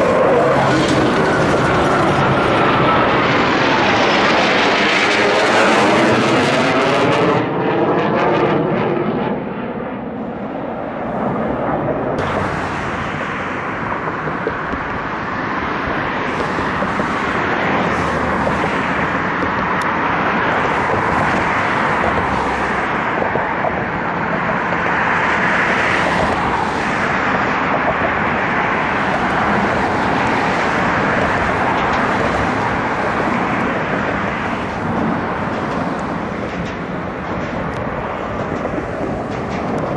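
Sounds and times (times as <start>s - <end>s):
jet engines flying past: 0.0s - 39.9s
steady loud jet noise: 0.0s - 39.9s.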